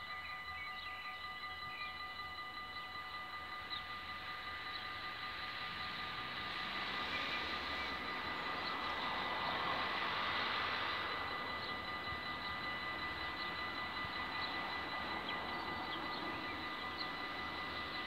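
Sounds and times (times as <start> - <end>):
distant engine hum: 0.0 - 18.0
faint constant whines: 0.0 - 18.0.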